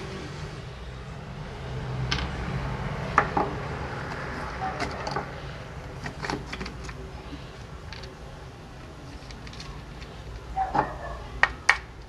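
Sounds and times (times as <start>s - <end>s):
passing road traffic rumble: 0.0s - 12.0s.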